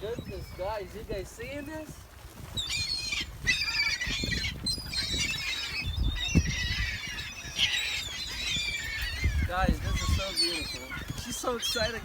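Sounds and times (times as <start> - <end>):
birds squealing and squawking: 0.0 - 12.0.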